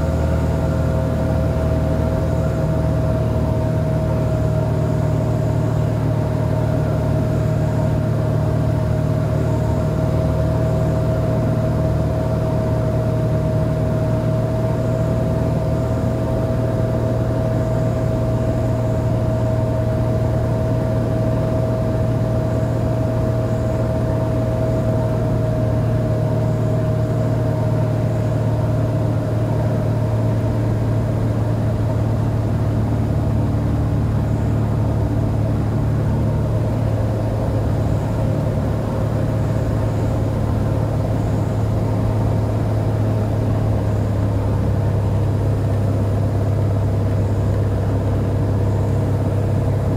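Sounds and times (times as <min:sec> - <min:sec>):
aircraft engine and propeller droning: 0:00.0 - 0:49.9.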